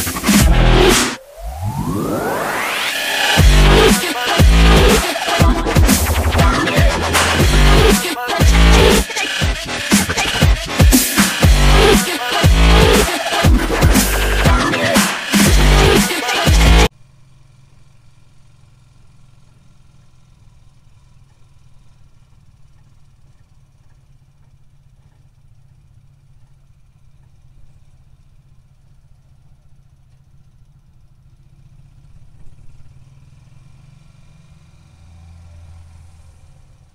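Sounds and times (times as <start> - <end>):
vehicle engine humming: 0.0 - 36.9.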